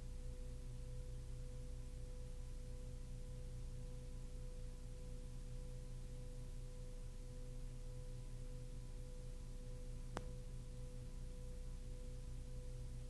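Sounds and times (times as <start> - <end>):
background hiss: 0.0 - 13.0
faint electrical hum: 0.0 - 13.0.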